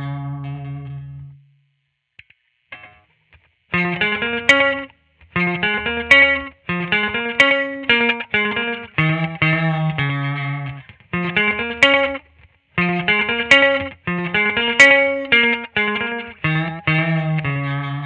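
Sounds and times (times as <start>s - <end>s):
electric guitar chords: 0.0s - 1.5s, 3.7s - 18.0s.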